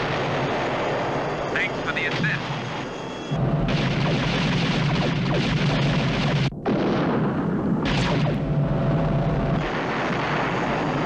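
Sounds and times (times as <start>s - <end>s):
rumble of blasts and engines: 0.0s - 11.0s.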